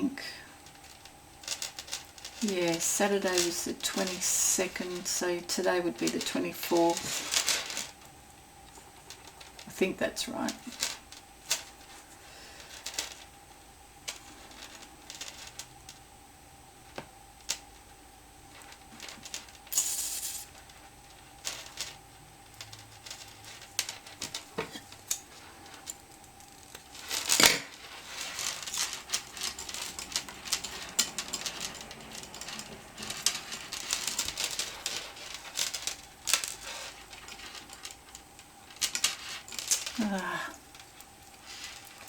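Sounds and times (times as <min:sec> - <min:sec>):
hands handling beads and driftwood: 0:00.0 - 0:42.0.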